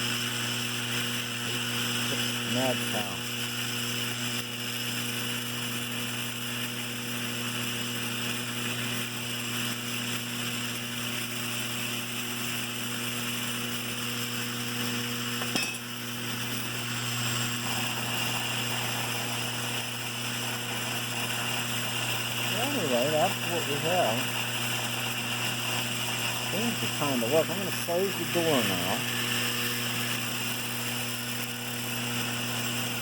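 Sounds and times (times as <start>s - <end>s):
electric vibrator buzz: 0.0s - 33.0s.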